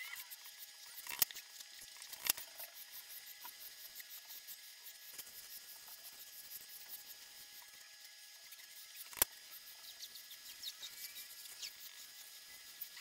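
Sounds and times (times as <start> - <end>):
drawing tool scratching paper: 0.0 - 13.0.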